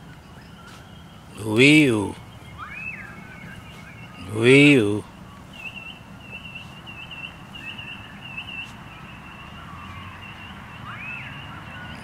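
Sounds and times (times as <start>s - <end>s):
bird whistling high notes: 0.2s - 12.0s.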